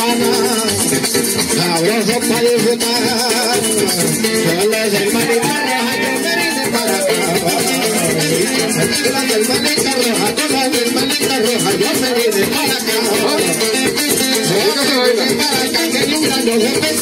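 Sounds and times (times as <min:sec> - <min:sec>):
electronic keyboard dance music: 0:00.1 - 0:17.0.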